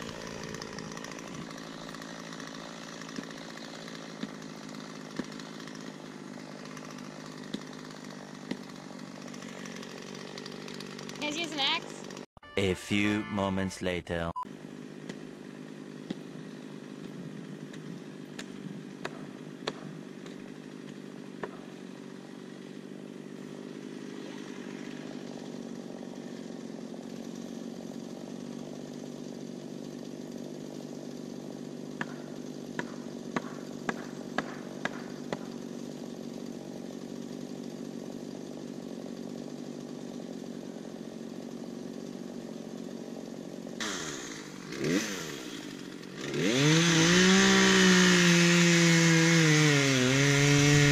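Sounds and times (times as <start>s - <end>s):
distant chainsaw running: 0.0s - 12.3s, 14.5s - 50.9s.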